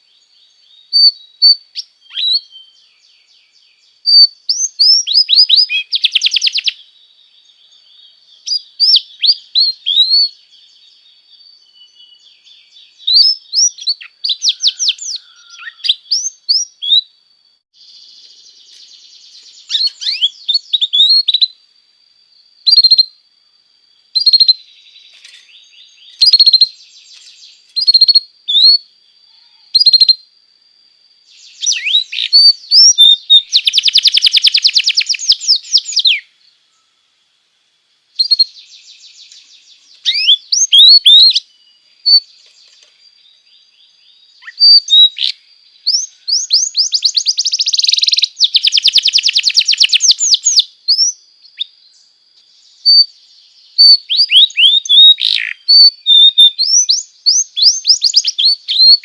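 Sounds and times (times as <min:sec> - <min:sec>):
canary singing: 0:00.0 - 0:17.2, 0:17.9 - 0:21.6, 0:22.7 - 0:23.2, 0:24.2 - 0:30.2, 0:31.3 - 0:36.8, 0:38.2 - 0:51.7, 0:52.6 - 0:59.0.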